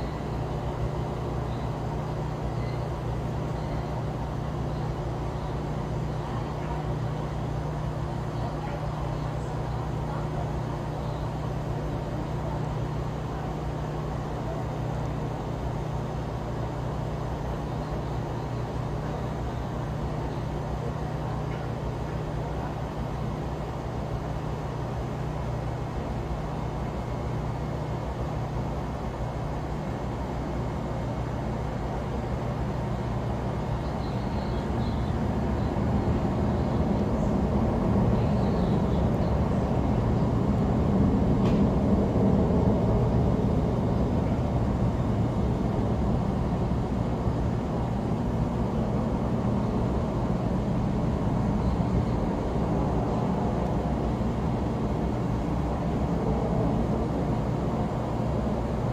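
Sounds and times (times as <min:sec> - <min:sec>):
distant traffic and machinery hum: 0:00.0 - 0:58.9.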